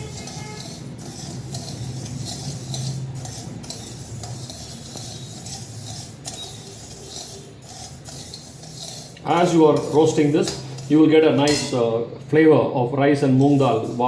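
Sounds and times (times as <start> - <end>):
spoon stirring dry grains: 0.0 - 11.8, 13.2 - 14.0.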